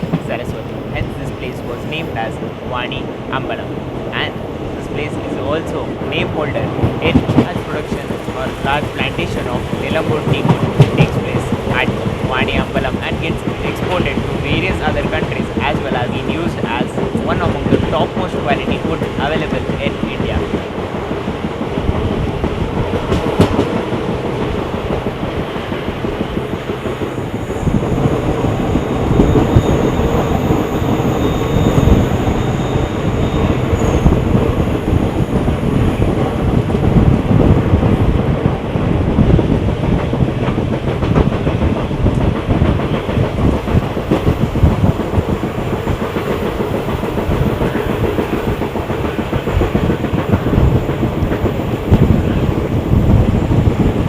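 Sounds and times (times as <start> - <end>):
train rumbling: 0.0 - 54.0
wheels clattering on rails: 5.0 - 54.0.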